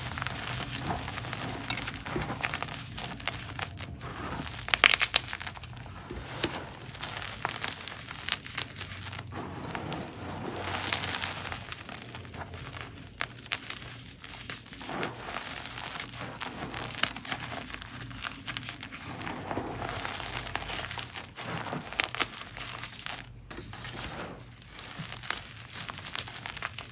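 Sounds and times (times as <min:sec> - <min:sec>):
chalk being crushed: 0:00.0 - 0:26.9.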